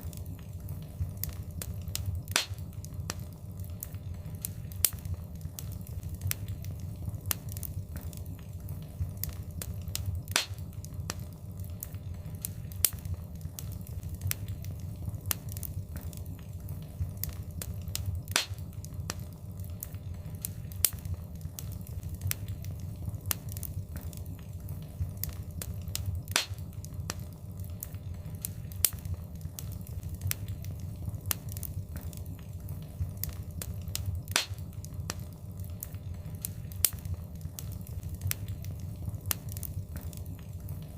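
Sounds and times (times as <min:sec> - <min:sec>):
low rumble of flames: 0:00.0 - 0:40.9
wood fire crackles and pops: 0:00.0 - 0:40.9.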